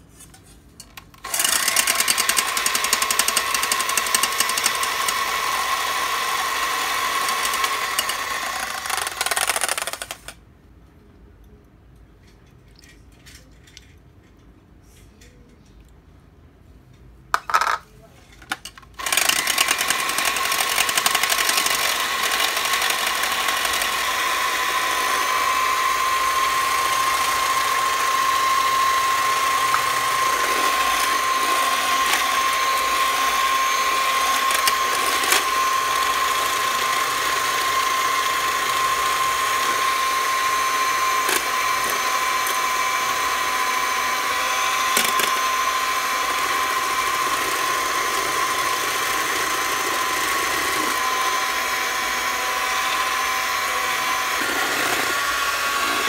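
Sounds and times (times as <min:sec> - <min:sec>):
electric hand mixer whining: 0:01.2 - 0:10.3, 0:19.0 - 0:56.0.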